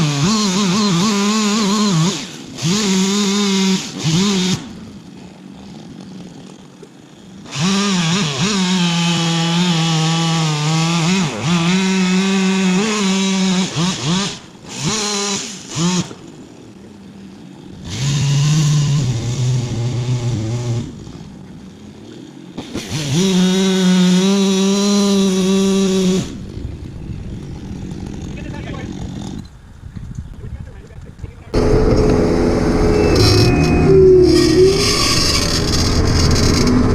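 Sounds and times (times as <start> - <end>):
chainsaw revving and idling: 0.0 - 16.2, 17.6 - 21.4, 22.0 - 26.5, 27.4 - 29.4, 31.6 - 36.9.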